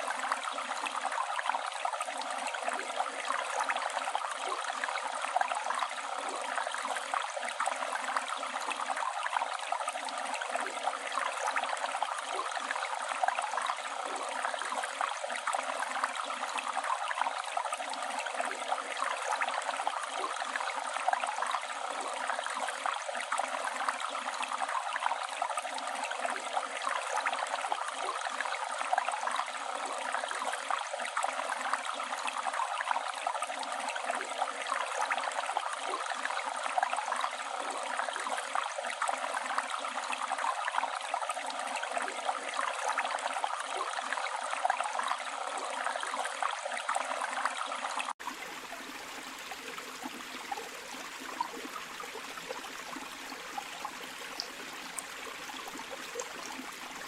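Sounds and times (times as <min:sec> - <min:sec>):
river running water: 0:00.0 - 0:57.0.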